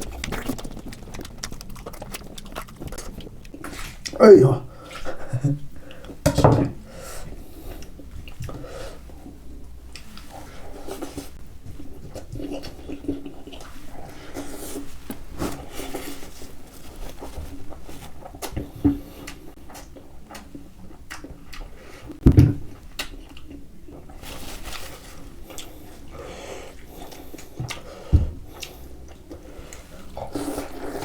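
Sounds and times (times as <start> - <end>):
wet chewing and lip smacks: 0.0 - 4.2, 7.7 - 31.0.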